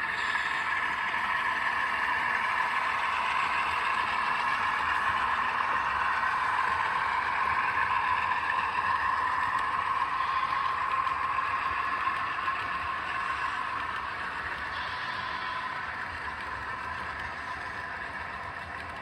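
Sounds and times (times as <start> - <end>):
diesel engine sound through small speakers: 0.0 - 19.0.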